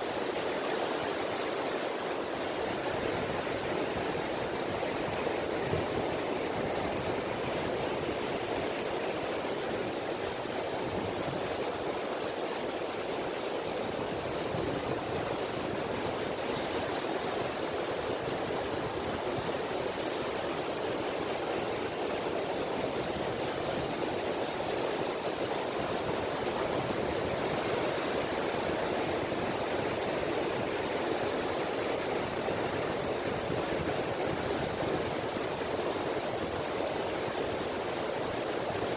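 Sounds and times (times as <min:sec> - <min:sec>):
small waves washing onto beach: 0:00.0 - 0:38.9.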